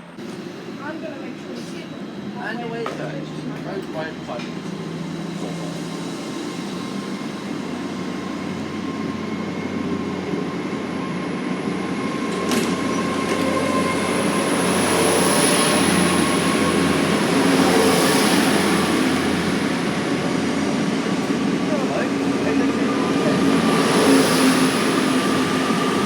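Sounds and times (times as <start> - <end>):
diesel train running: 0.0 - 26.0.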